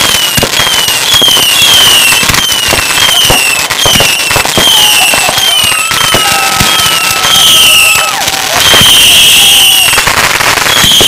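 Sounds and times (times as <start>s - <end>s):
firework cracks and bangs: 0.0s - 11.0s
firework whistles: 0.0s - 11.0s.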